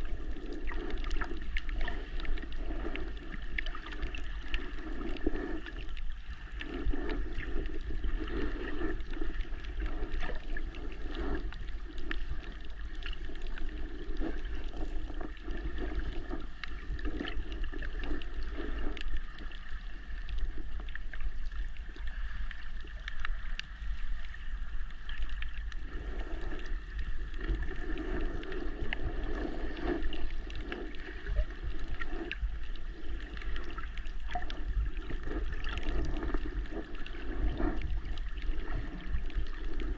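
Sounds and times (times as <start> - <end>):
water sloshing underwater: 0.0 - 39.9.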